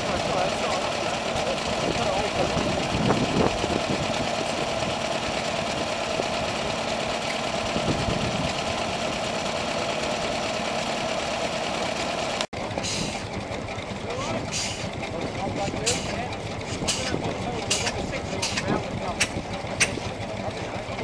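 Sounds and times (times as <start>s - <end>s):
small stationary engine running: 0.1s - 21.0s.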